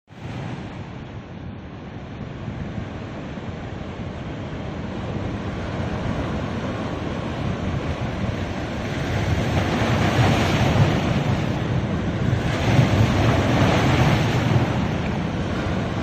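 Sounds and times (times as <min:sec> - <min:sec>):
sea waves washing onto beach: 0:00.1 - 0:16.0.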